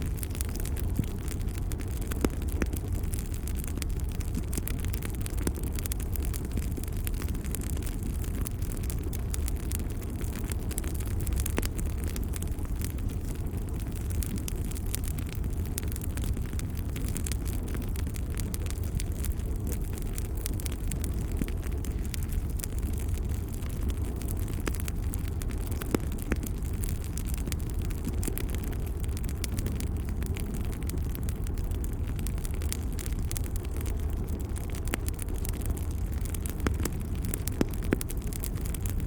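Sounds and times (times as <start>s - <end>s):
fireplace fire crackling: 0.0s - 39.0s.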